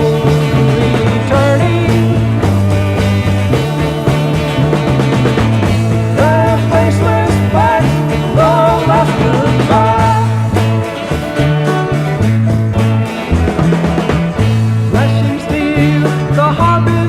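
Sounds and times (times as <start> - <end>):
lead melody with sliding notes: 0.0 - 17.0
psychedelic rock band playing: 0.0 - 17.0
stepping bass line: 0.0 - 17.0.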